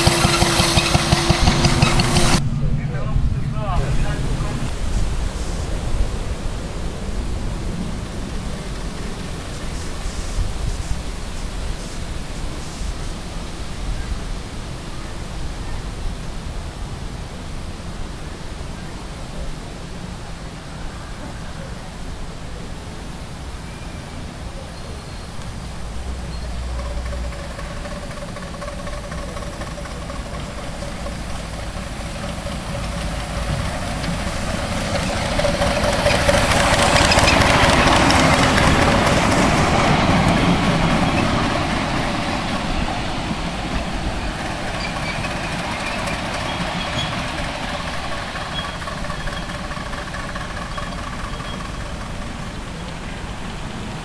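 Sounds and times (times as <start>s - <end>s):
miniature train passing: 0.0s - 54.0s.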